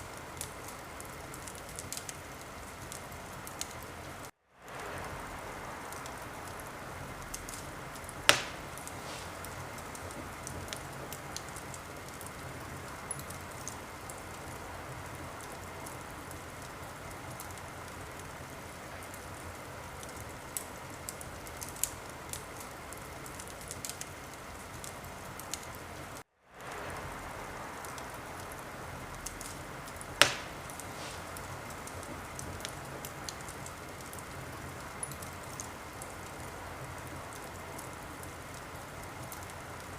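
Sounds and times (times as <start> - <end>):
loud fire pops: 0.0 - 25.8, 26.6 - 39.9
wood fire crackling: 0.0 - 39.9.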